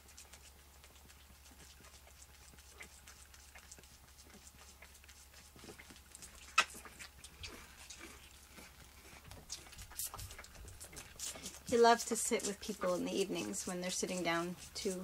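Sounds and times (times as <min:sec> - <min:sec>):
goat kid sucking bottle: 0:00.0 - 0:15.0.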